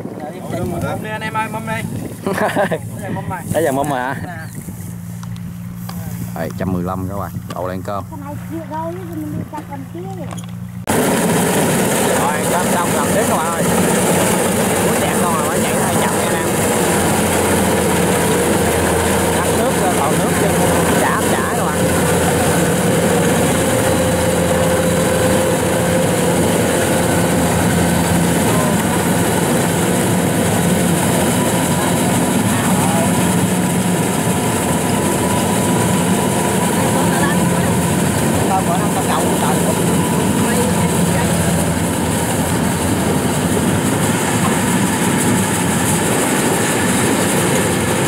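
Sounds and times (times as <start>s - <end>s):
combine harvester engine droning: 0.0s - 48.0s.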